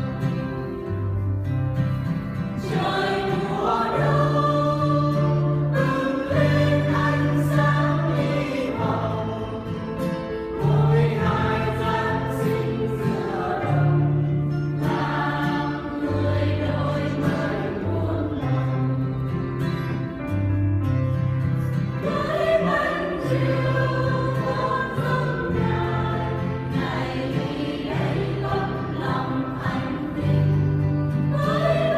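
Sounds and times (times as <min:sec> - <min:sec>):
church choir singing a hymn: 0:00.0 - 0:20.6, 0:21.4 - 0:31.9.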